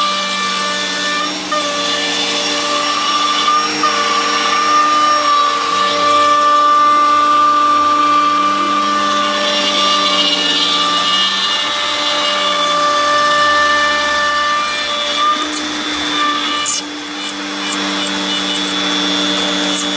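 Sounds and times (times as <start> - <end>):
router cutting wood: 0.0 - 19.9
shop vacuum sucking: 0.0 - 19.9.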